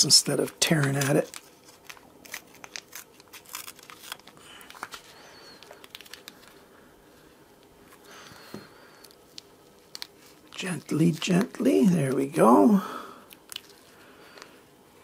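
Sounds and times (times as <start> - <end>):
masking tape crinkling: 0.2 - 12.5, 13.2 - 14.6.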